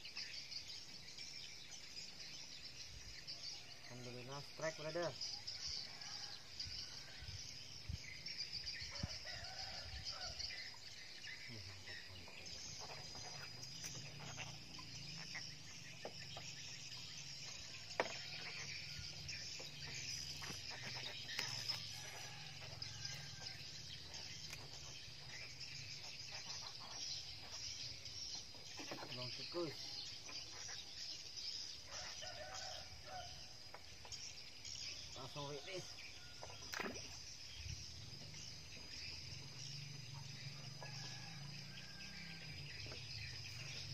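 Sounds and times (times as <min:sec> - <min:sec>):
outdoor background hiss: 0:00.0 - 0:43.9.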